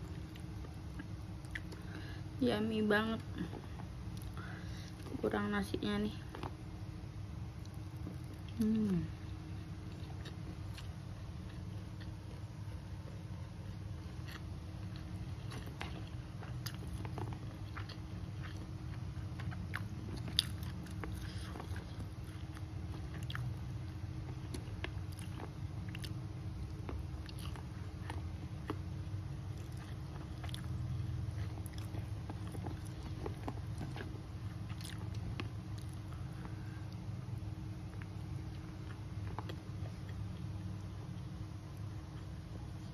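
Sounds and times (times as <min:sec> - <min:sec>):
chewing and biting: 0:00.0 - 0:02.0, 0:09.6 - 0:42.9
steady low hum: 0:00.0 - 0:42.9.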